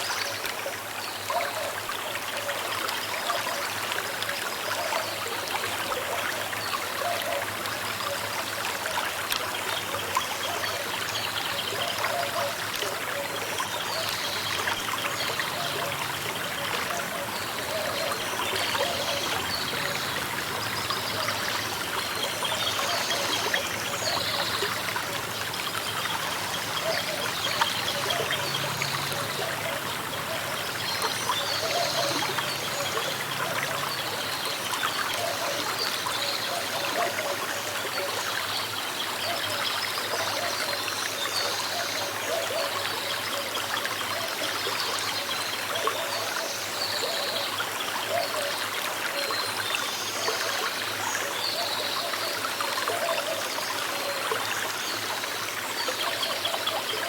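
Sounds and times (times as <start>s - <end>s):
small river trickling and burbling: 0.0s - 57.0s.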